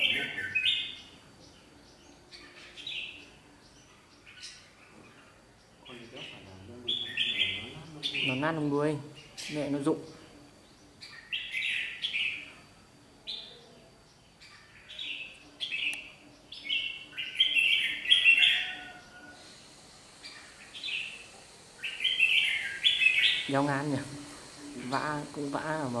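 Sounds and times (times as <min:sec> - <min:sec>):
birds singing chirpy phrases: 0:00.0 - 0:26.0.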